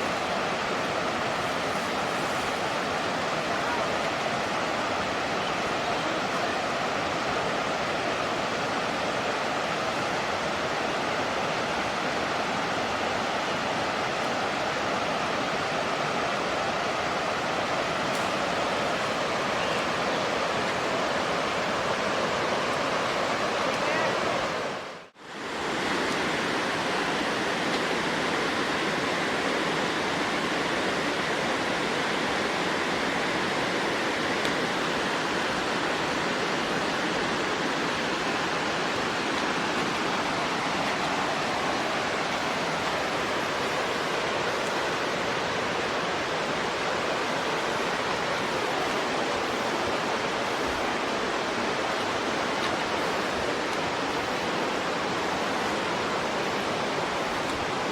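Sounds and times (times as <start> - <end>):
flowing water: 0.0 - 57.9.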